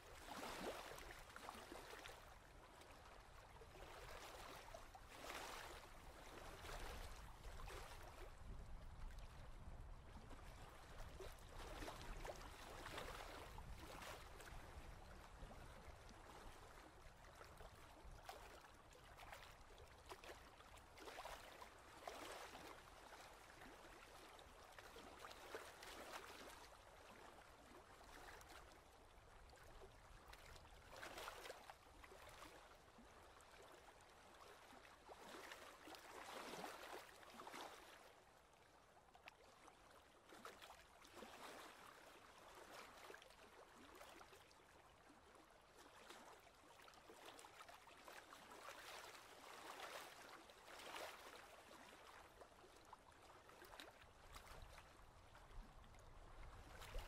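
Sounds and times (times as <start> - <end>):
small waves lapping on rocks: 0.1 - 9.8, 10.4 - 28.8, 29.4 - 38.0, 39.4 - 44.4, 45.8 - 57.0.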